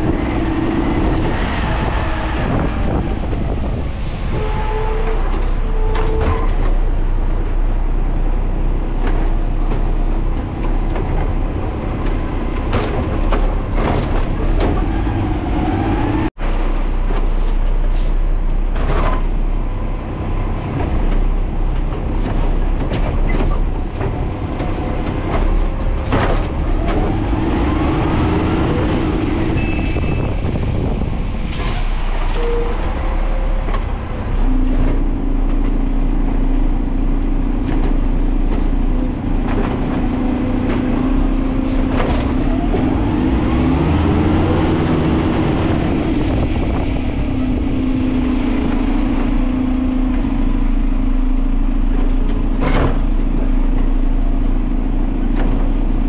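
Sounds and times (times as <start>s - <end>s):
garbage truck engine rumbling: 0.0s - 56.0s.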